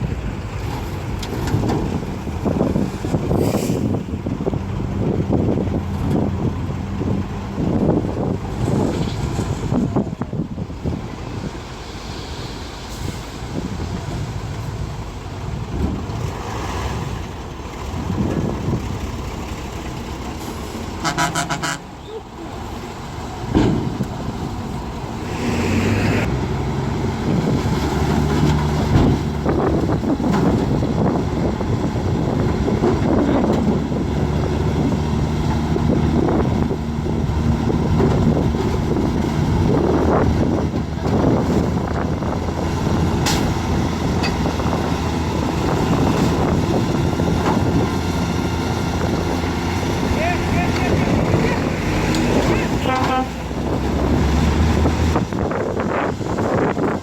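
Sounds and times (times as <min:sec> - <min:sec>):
heavy diesel engines working: 0:00.0 - 0:57.0.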